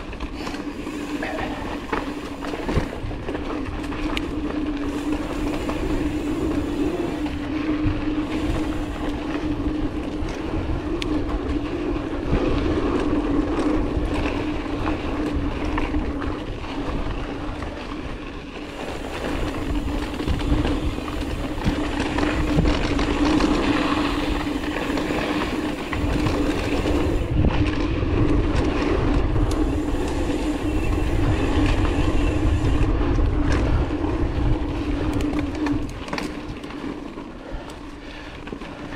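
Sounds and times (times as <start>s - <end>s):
bike tyres rattling over trail: 0.0s - 38.9s.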